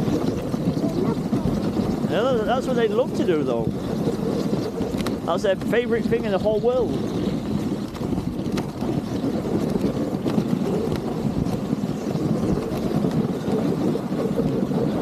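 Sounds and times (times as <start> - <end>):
sled runners rushing over snow: 0.0 - 15.0
wind on microphone: 0.0 - 15.0.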